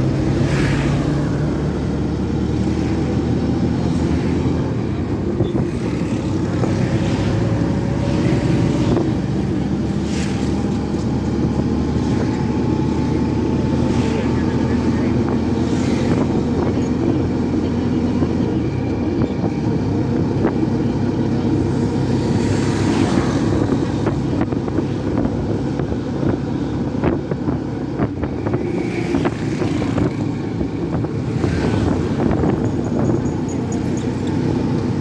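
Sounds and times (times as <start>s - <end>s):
passing traffic: 0.0s - 35.0s
vehicle engine running: 0.0s - 35.0s
wind buffeting microphone: 1.3s - 35.0s.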